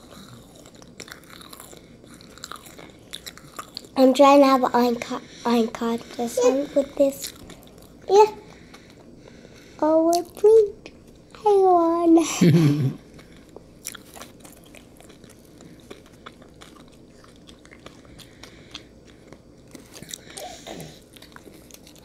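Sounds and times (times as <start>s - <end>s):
people chewing: 0.0s - 4.0s, 5.0s - 10.5s, 12.6s - 22.0s.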